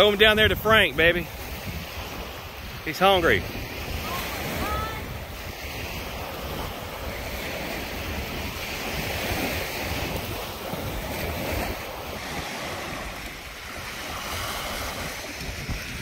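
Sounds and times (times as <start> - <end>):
small waves washing on beach: 0.0 - 16.0
wind buffeting microphone: 0.0 - 16.0.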